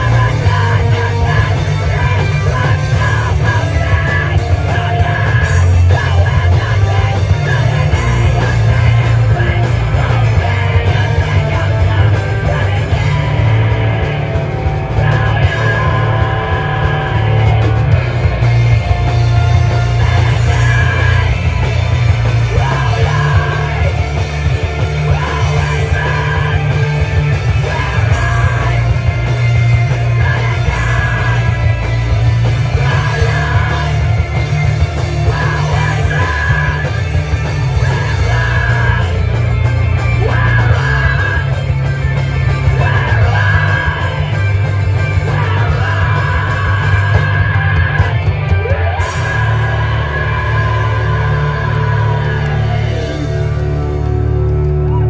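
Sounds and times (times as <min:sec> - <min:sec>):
live heavy rock band: 0:00.0 - 0:55.0
yelled vocals: 0:00.0 - 0:55.0.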